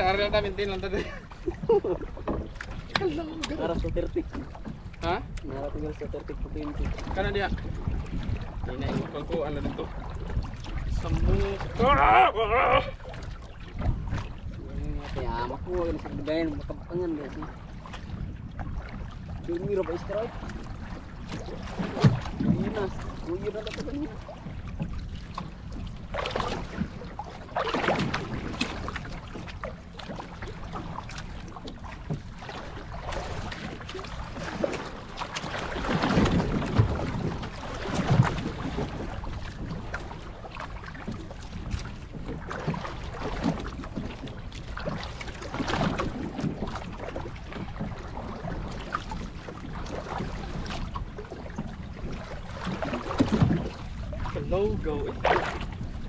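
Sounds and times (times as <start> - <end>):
water slapping against boat hull: 0.0 - 56.0
wind buffeting microphone: 0.0 - 56.0.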